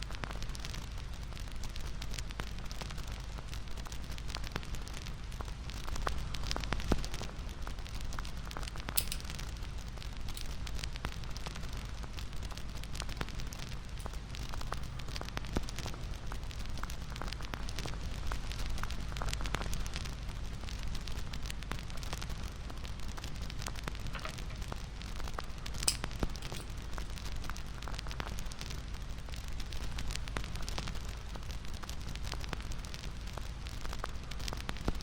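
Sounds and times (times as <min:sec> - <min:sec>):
bonfire crackling and popping: 0:00.0 - 0:35.0.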